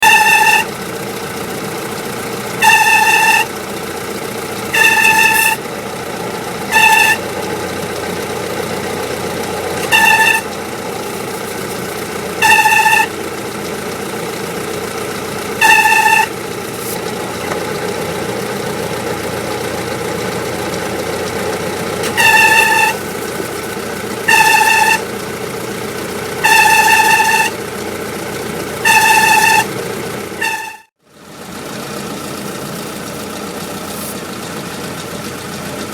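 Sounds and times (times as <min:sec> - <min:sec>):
bearing squealing: 0:00.0 - 0:00.9, 0:02.0 - 0:03.6, 0:04.4 - 0:05.7, 0:06.6 - 0:08.0, 0:08.8 - 0:30.9, 0:31.8 - 0:35.9
engine idling: 0:00.0 - 0:35.9.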